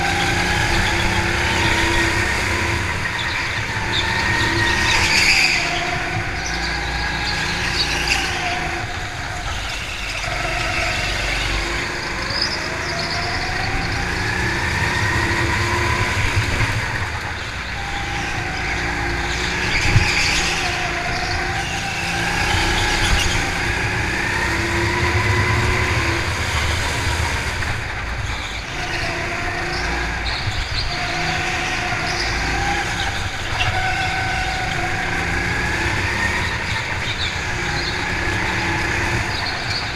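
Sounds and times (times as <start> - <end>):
go-kart motor: 0.0 - 39.9.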